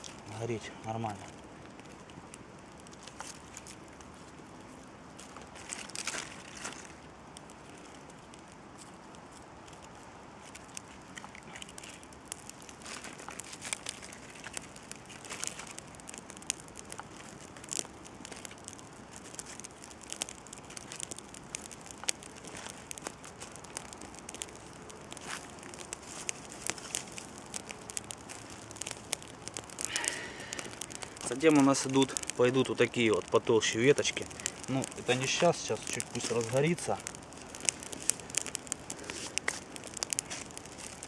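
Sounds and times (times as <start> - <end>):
faint fire hiss: 0.0 - 41.0
fire crackling and snapping: 0.0 - 41.0.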